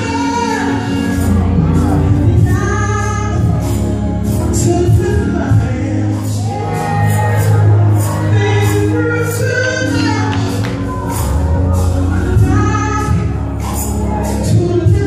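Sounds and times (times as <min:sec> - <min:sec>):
band with strong bass line: 0:00.0 - 0:15.0
gospel singing: 0:00.0 - 0:15.0.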